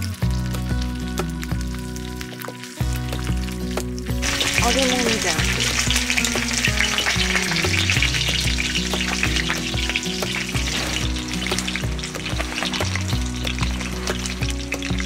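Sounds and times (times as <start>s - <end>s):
background music: 0.0s - 15.0s
oil sizzling and crackling in a skillet: 0.0s - 15.0s.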